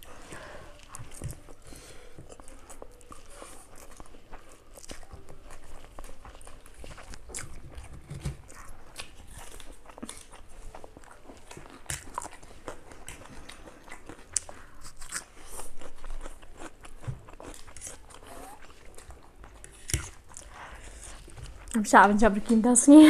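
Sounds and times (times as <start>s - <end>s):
people slurping and chewing noodles: 0.0s - 23.0s.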